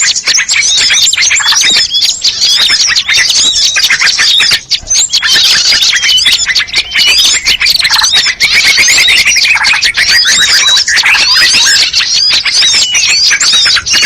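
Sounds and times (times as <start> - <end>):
fast repeated bird notes: 0.0 - 14.0
songbirds chirping and whistling: 0.0 - 14.0.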